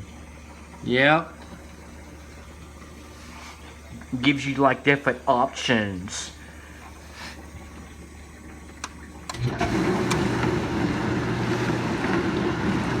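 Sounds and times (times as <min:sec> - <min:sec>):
dishwasher pump motor humming: 0:00.0 - 0:13.0.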